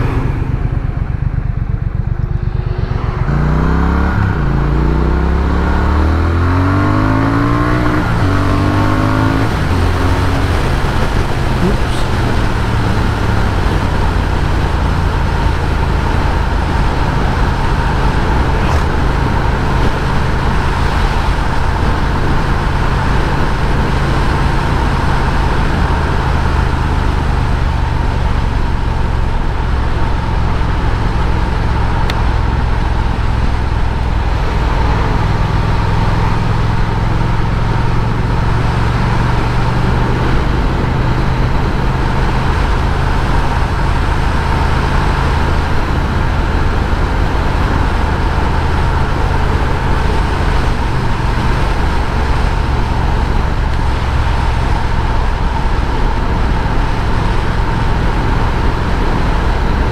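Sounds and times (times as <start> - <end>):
motorcycle engine running: 0.0 - 59.9
road noise: 0.0 - 59.9
wind noise: 0.0 - 59.9.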